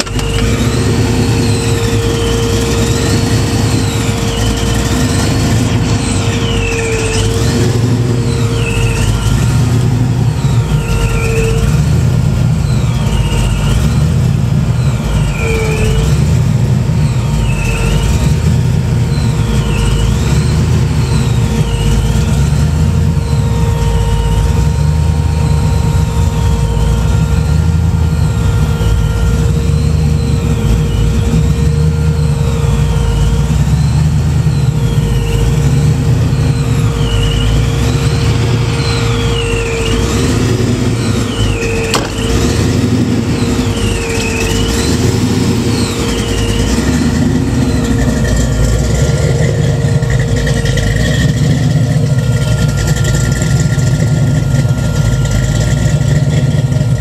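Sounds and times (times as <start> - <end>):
car engine idling loudly: 0.0 - 57.0.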